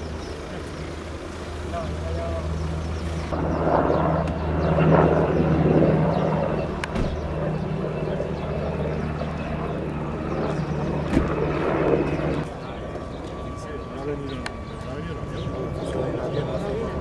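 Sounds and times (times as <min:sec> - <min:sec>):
helicopter drone in flight: 0:00.0 - 0:17.0.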